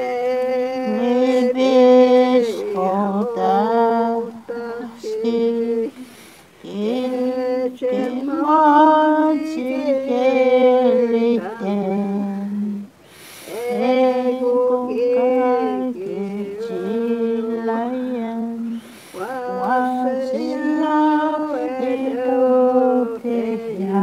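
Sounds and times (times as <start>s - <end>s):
person singing slowly: 0.0s - 24.0s.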